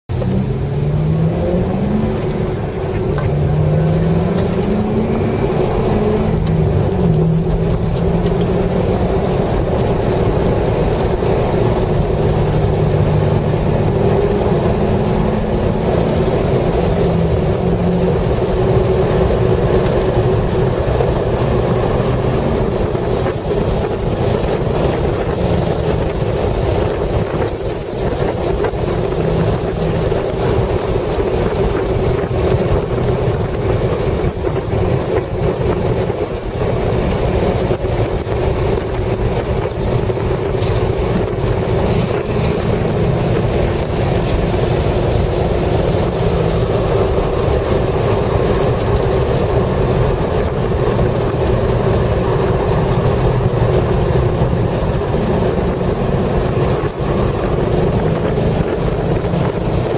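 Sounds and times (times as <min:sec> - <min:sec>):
wind and road noise: 0:00.0 - 0:59.9
car engine accelerating: 0:00.1 - 0:59.9.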